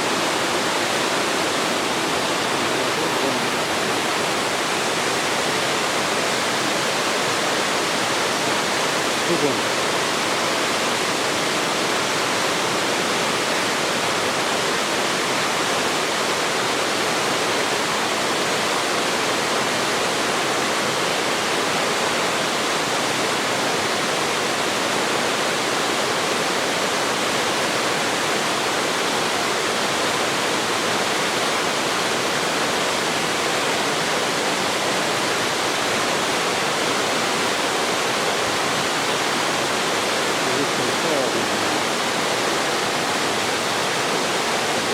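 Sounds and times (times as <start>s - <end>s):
waterfall pouring: 0.0s - 44.9s.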